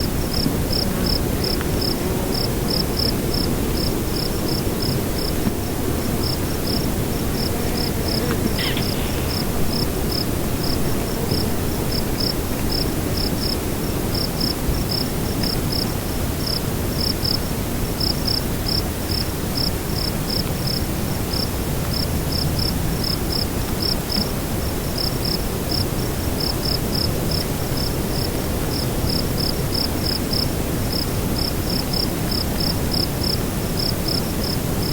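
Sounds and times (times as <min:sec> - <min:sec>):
crickets chirping: 0:00.2 - 0:17.4, 0:18.0 - 0:34.9.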